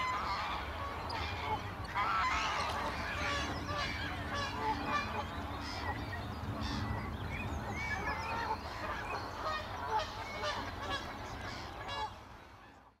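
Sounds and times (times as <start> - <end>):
wetland birds calling: 0.0 - 12.2.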